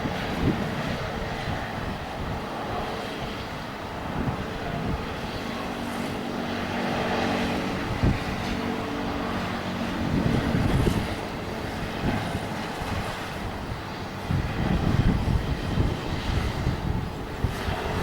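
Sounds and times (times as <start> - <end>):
jet engine hum: 0.0 - 18.0.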